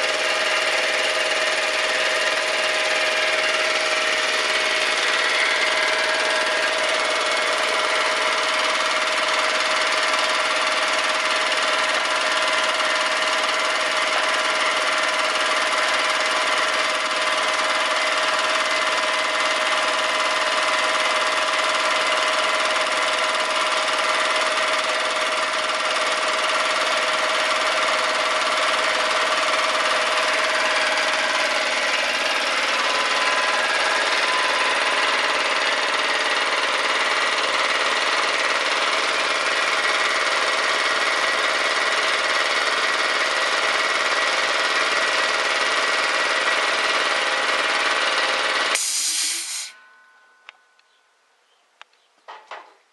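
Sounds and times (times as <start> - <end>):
air compressor pump running: 0.0 - 49.8.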